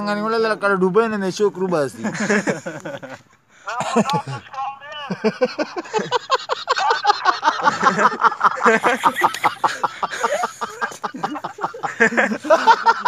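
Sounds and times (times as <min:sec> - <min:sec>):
excited talking: 0:00.0 - 0:13.0
men laughing hard: 0:02.0 - 0:13.0.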